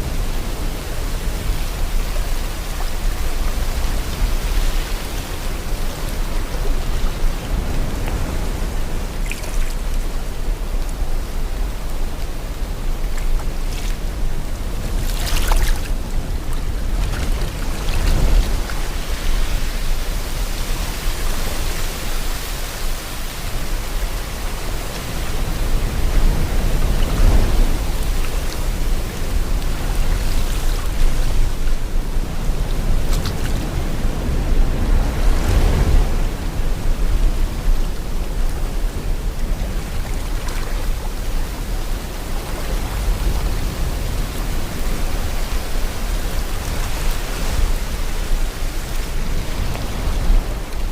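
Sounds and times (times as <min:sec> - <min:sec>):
sea water rushing: 0:00.0 - 0:50.9
wind: 0:00.0 - 0:50.9.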